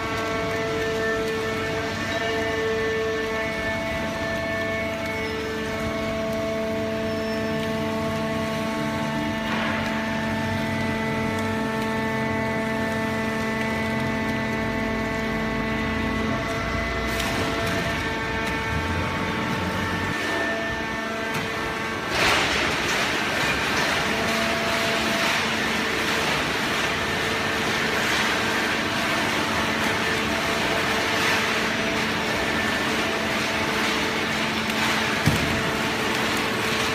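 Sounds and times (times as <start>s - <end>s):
hydraulic power unit whine: 0.0s - 36.9s.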